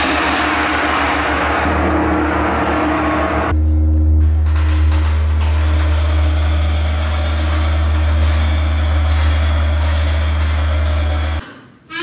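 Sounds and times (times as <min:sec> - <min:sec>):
large gongs shimmering: 0:00.0 - 0:11.4
low throbbing hum: 0:00.0 - 0:11.4.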